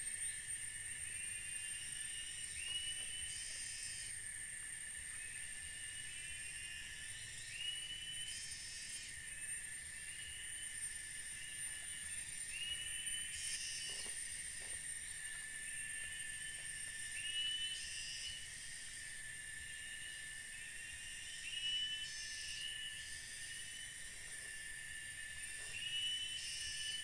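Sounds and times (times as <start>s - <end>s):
high insect rasp: 0.0s - 27.0s
high-pitched insect whine: 0.0s - 27.0s
rising buzzing insect call: 0.0s - 27.0s.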